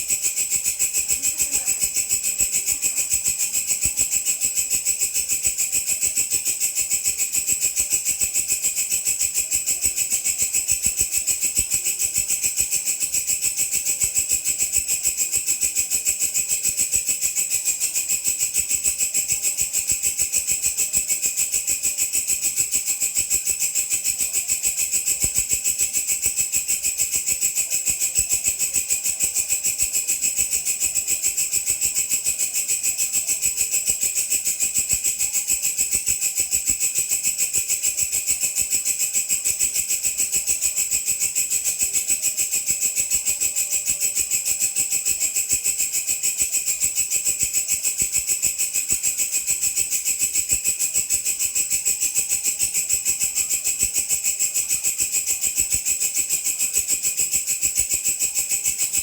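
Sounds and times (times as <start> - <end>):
grasshopper trilling: 0.0 - 59.0.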